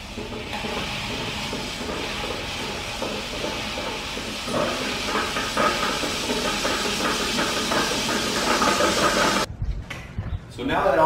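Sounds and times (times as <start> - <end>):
floor grinder whirring on concrete: 0.0 - 9.5.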